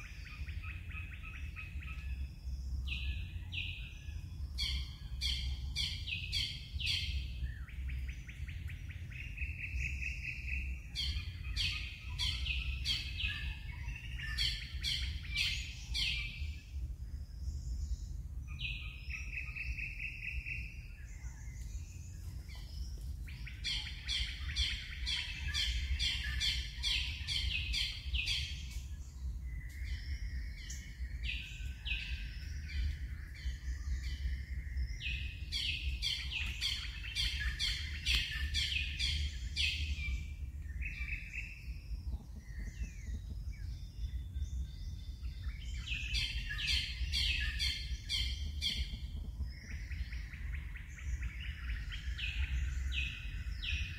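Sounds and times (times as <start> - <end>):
birds chirping: 0.0 - 53.9
steady low rumble: 0.0 - 53.9.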